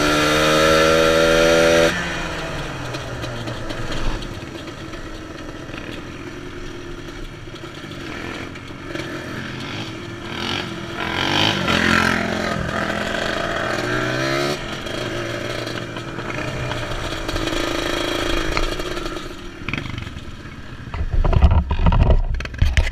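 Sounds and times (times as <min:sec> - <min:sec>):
atv engine revving: 0:00.0 - 0:22.7.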